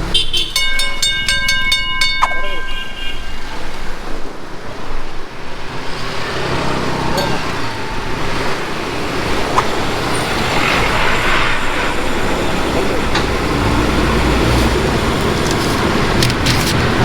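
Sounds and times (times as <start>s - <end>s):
road noise: 0.0s - 17.0s
motor vehicle passing: 2.8s - 17.0s.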